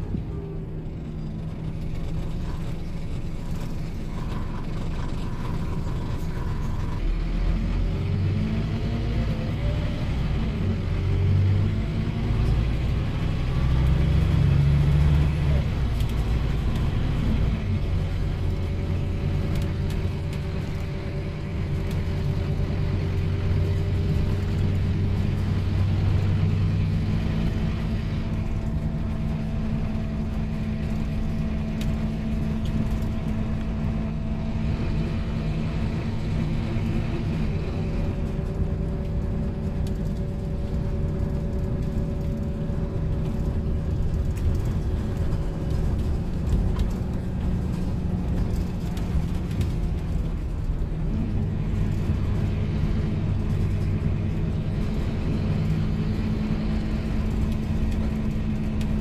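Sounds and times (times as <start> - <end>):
bus engine running: 0.0 - 59.0
road rumble: 0.0 - 59.0.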